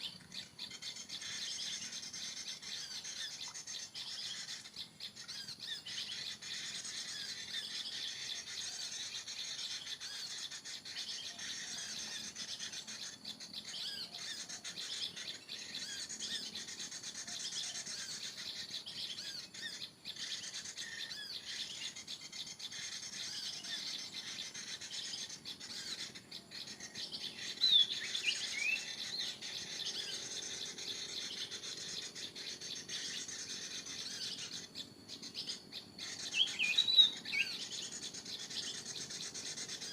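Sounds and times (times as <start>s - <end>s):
insect hiss: 0.0s - 39.9s
small birds chirping: 0.0s - 39.9s.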